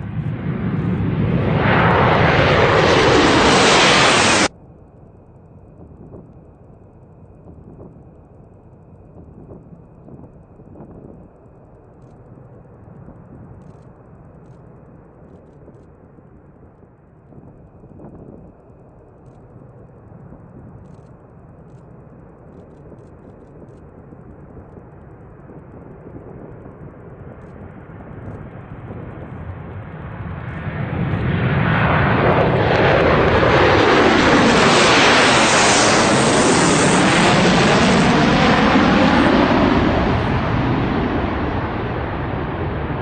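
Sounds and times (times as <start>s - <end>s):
jet aircraft flying past: 0.0s - 4.6s, 12.2s - 43.0s.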